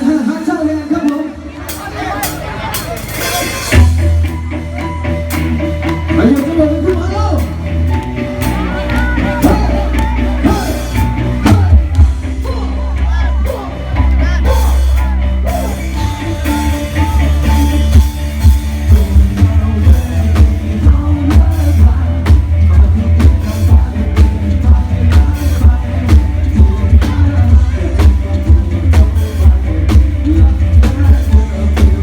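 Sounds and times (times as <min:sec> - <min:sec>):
live band music over loudspeakers: 0:00.0 - 0:32.0
drum beat: 0:01.7 - 0:15.7, 0:17.5 - 0:32.0
heavy booming bass: 0:02.4 - 0:32.0
person singing: 0:04.6 - 0:32.0.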